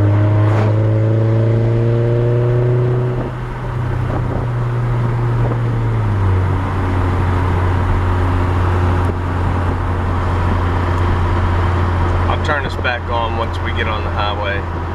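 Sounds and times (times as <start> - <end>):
car exhaust low drone: 0.0 - 14.9.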